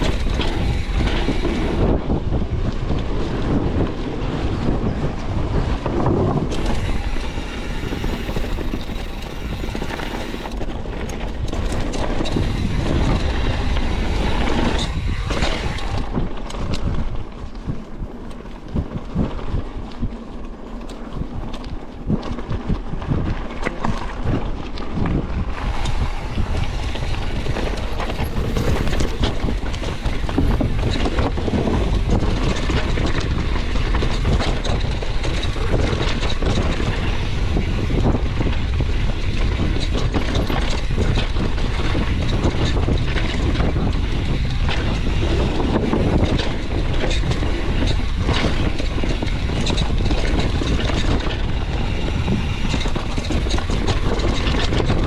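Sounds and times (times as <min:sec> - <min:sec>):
skis scraping over hard snow: 0:00.0 - 0:55.0
wind on microphone: 0:00.0 - 0:55.0.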